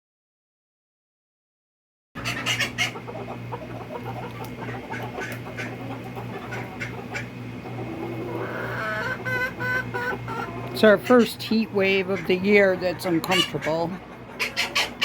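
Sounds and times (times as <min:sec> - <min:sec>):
chickens clucking and squawking: 0:02.2 - 0:15.0
steady low hum: 0:02.2 - 0:15.0.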